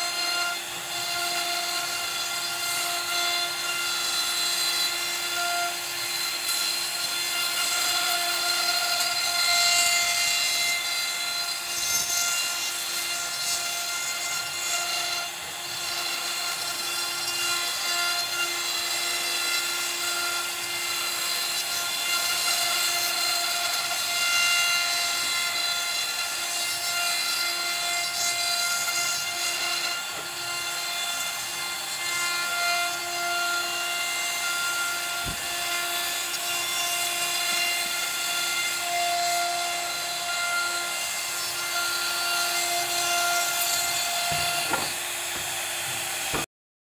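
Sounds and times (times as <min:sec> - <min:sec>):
router spindle whine: 0:00.0 - 0:46.4
router bit cutting wood: 0:00.0 - 0:46.5.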